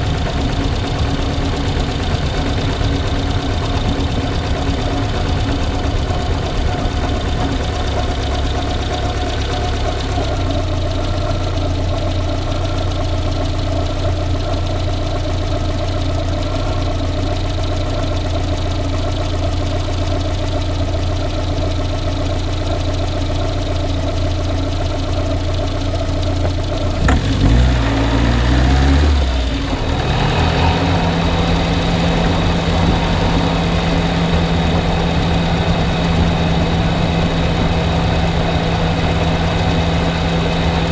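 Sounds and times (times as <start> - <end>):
car engine idling with knock: 0.0 - 40.9.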